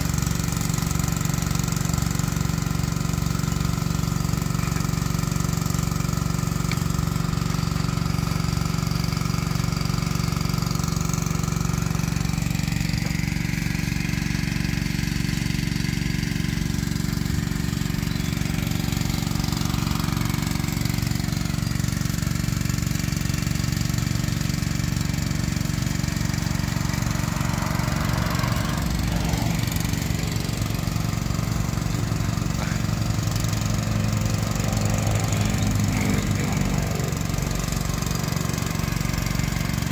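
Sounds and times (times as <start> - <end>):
small pump engine running: 0.0 - 39.9.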